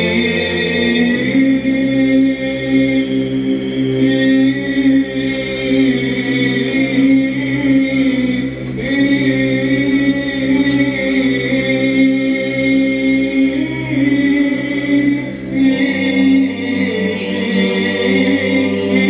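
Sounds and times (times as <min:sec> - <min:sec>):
men singing church chant: 0:00.0 - 0:19.0.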